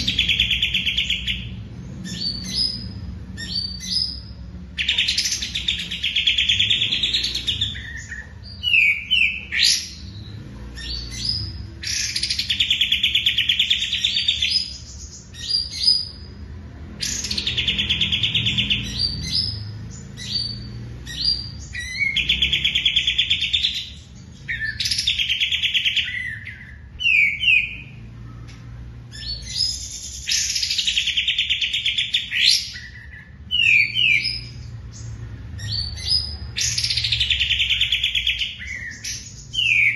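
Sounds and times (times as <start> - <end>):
songbird singing buzzy trill: 0.0 - 39.9.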